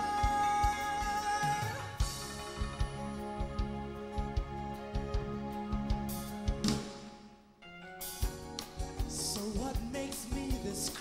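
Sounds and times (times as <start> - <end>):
drum kit hits: 0.0 - 7.4, 8.0 - 10.8.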